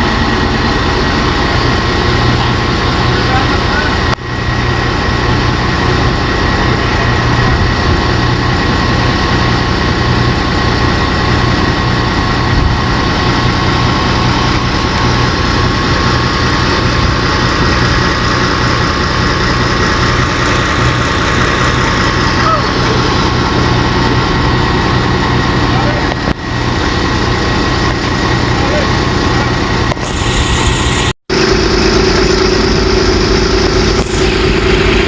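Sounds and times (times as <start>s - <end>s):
diesel engine idling: 0.0s - 35.0s
thin steady whine: 0.0s - 35.0s.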